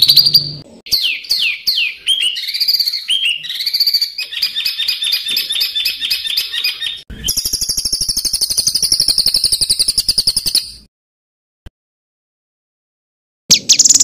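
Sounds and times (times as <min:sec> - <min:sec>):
songbird singing rapid trills: 0:00.0 - 0:10.9, 0:13.5 - 0:14.0.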